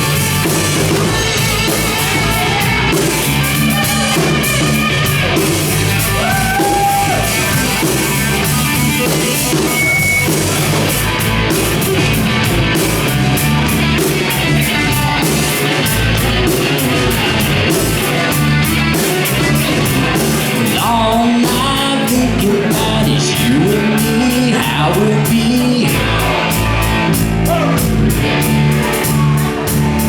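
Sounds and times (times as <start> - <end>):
drum kit: 0.0 - 30.0
electric guitar: 0.0 - 30.0.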